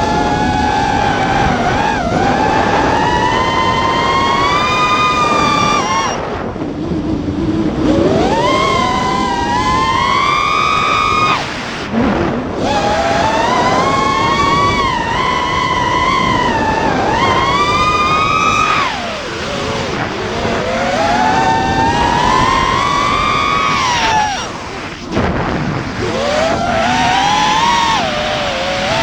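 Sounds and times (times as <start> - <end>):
drone motors whining: 0.0 - 29.0
wind rushing: 0.0 - 29.0.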